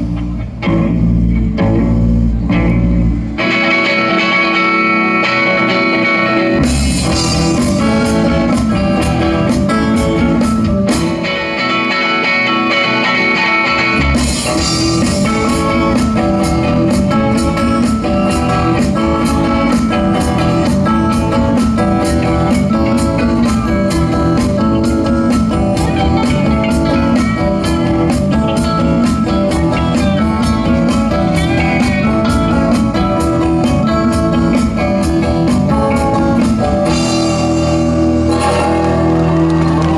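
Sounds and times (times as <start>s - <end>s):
bass and drums beat: 0.0s - 3.6s, 6.5s - 11.6s, 13.8s - 39.9s
electric guitar: 0.0s - 39.9s.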